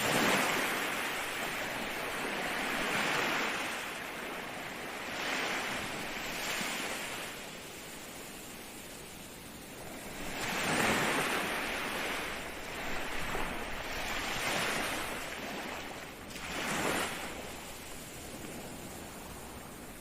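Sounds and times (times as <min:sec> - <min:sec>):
waves breaking and washing in: 0:00.0 - 0:20.0.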